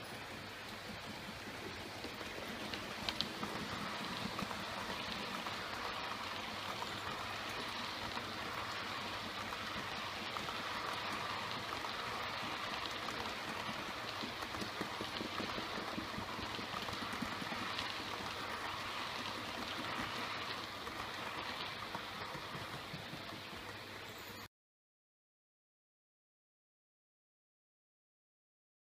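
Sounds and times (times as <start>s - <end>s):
model train wheels rattling on rails: 0.0s - 24.5s.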